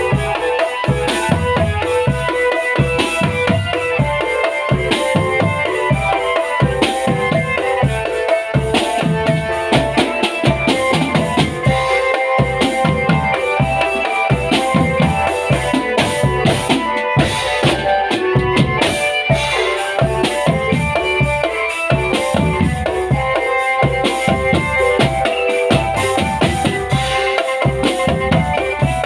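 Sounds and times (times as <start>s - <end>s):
melody on held notes: 0.0s - 29.0s
snare and bass drums beating: 0.0s - 29.0s.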